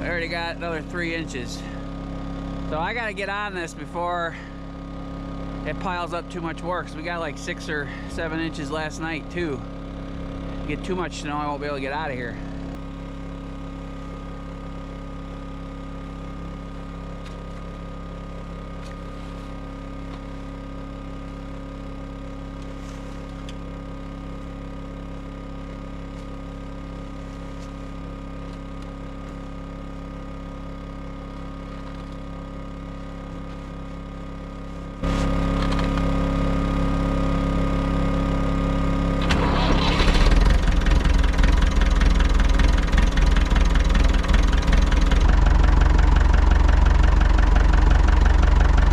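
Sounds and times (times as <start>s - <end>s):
small engine humming: 0.0s - 48.9s.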